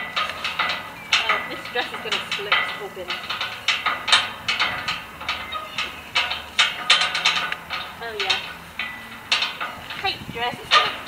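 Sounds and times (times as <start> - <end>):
metal gate rattling and clanking: 0.0 - 11.0.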